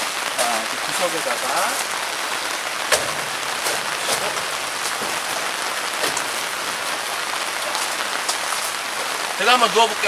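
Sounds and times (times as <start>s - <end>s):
heavy rain on a canvas tent: 0.0s - 10.0s
louder raindrop ticks: 0.0s - 10.0s.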